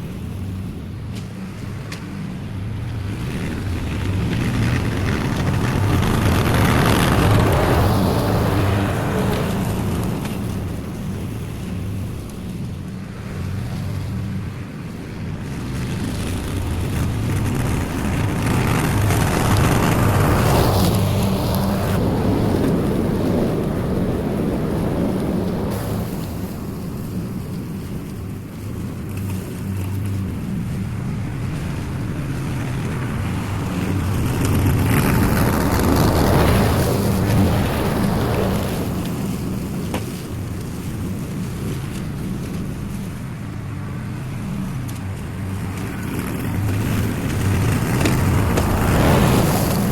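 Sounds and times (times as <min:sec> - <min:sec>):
lawn mower cutting grass: 0:00.0 - 0:49.9.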